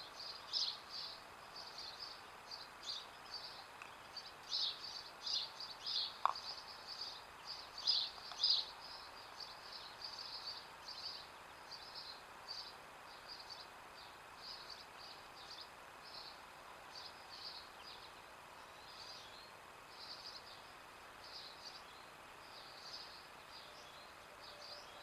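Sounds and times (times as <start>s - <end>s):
songbirds chirping: 0.0s - 25.0s
steady faint hiss: 0.0s - 25.0s.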